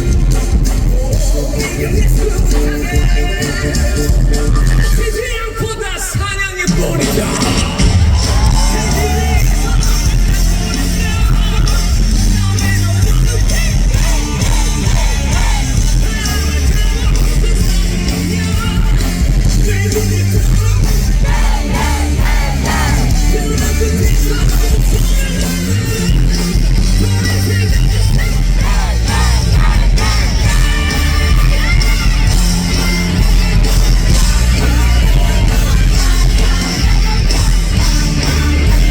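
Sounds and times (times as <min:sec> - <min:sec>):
live rock band playing: 0:00.0 - 0:38.9
man singing and yelling: 0:00.0 - 0:38.9.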